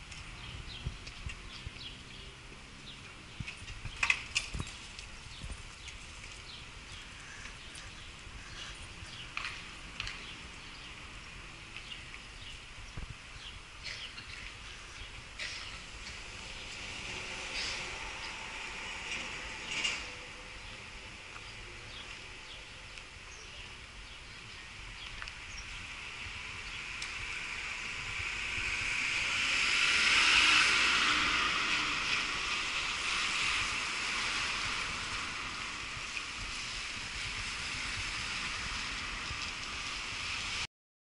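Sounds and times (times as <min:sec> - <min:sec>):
tyres hissing on wet road: 0:05.8 - 0:40.7.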